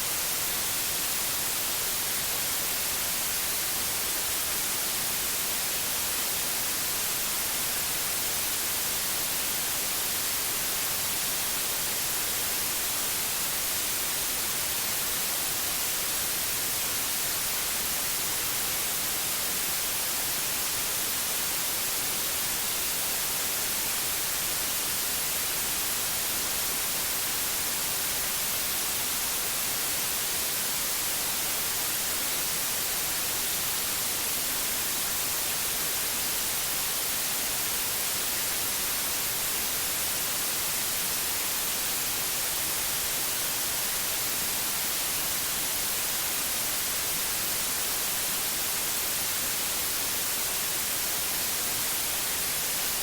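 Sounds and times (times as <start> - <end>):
steady white noise hiss: 0.0 - 53.0.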